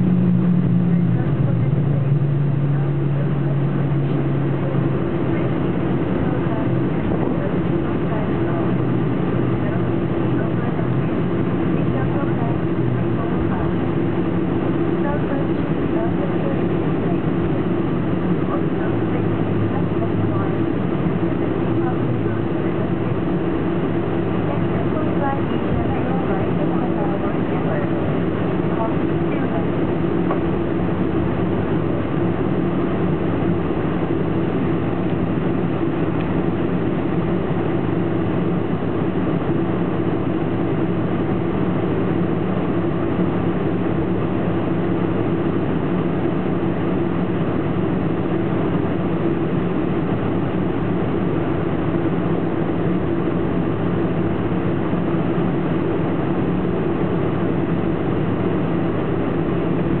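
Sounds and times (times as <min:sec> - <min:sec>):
jet engines at low power: 0:00.0 - 1:00.0
steady low hum: 0:00.0 - 1:00.0.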